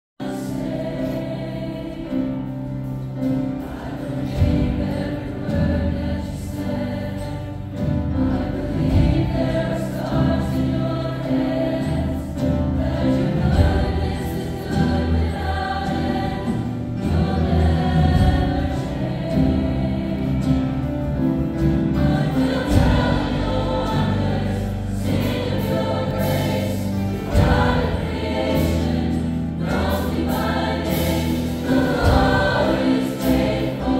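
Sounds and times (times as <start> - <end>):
gospel choir singing: 0.2 - 33.9
instrumental accompaniment: 0.2 - 33.9.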